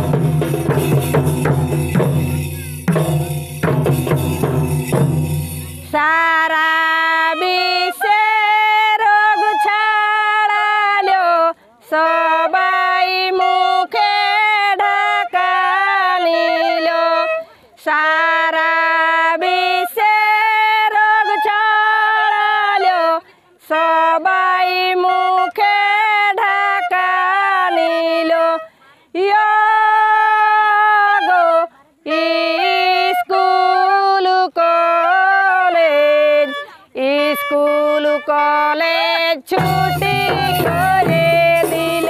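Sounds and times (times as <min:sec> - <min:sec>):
woman singing solo: 0:06.0 - 0:42.0.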